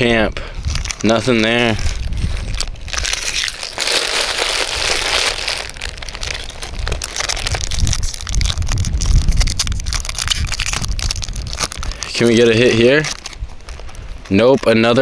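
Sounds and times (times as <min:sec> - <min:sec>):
crackles of handled wrapper and cards: 0:00.0 - 0:15.0
foil wrapper crinkling and tearing: 0:00.0 - 0:15.0.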